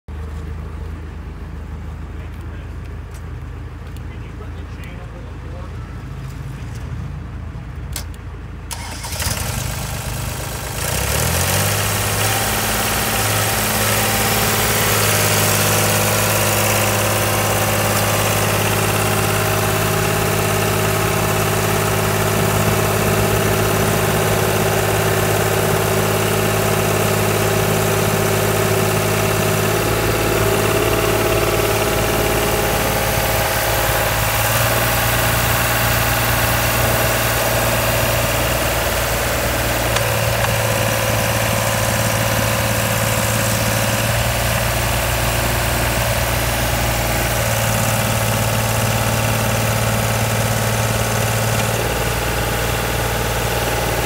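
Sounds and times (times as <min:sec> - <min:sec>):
engine cranking and idling: 0:07.7 - 0:54.0.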